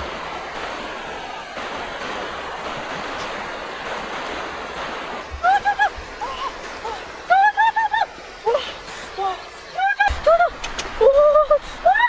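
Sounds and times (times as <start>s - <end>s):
river rushing through rapids: 0.0s - 11.2s.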